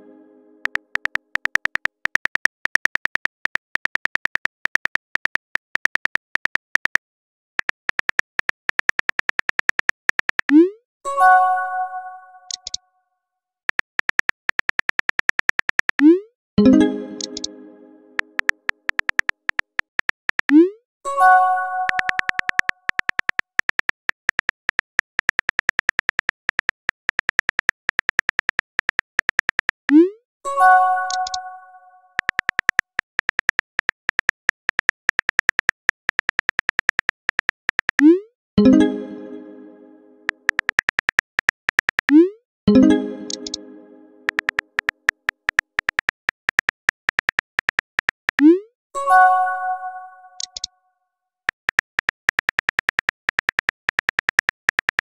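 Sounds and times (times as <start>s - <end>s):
keyboard typing clicks: 0.6s - 7.0s, 7.6s - 10.7s, 12.5s - 12.8s, 13.7s - 17.6s, 18.2s - 20.7s, 21.8s - 30.1s, 31.0s - 31.5s, 32.2s - 39.6s, 40.3s - 48.6s, 50.4s - 50.7s, 51.5s - 55.0s.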